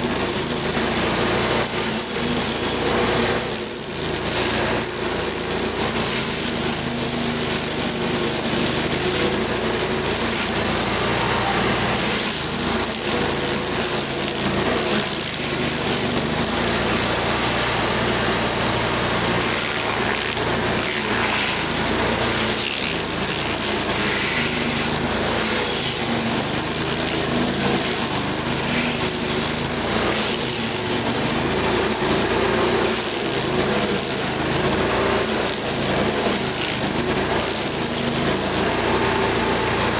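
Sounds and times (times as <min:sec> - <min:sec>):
stump grinder engine: 0:00.0 - 0:39.9.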